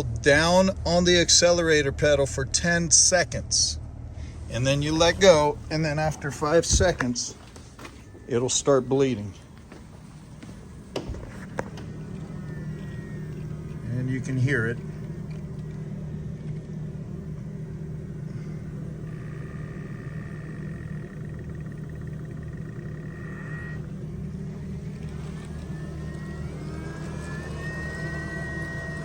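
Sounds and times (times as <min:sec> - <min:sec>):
electric pump humming: 0:00.0 - 0:29.0
pump whine: 0:00.0 - 0:29.0.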